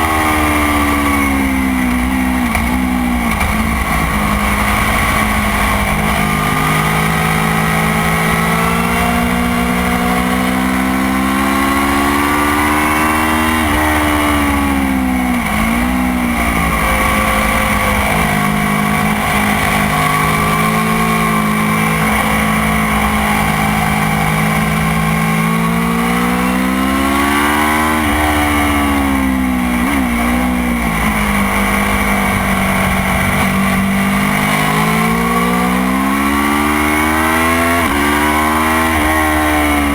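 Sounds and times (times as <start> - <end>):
motorcycle engine accelerating: 0.0 - 39.9
throttle blips while downshifting: 0.0 - 39.9.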